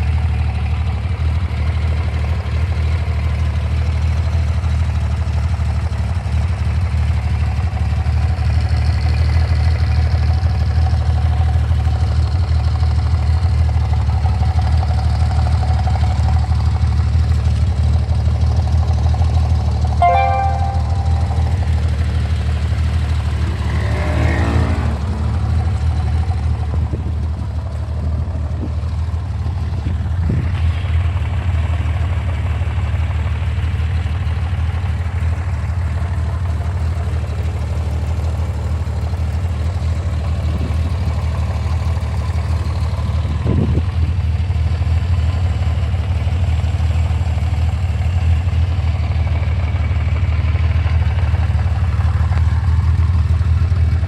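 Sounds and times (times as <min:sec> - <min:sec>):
motorcycle engine idling: 0:00.0 - 0:23.6, 0:25.0 - 0:54.0.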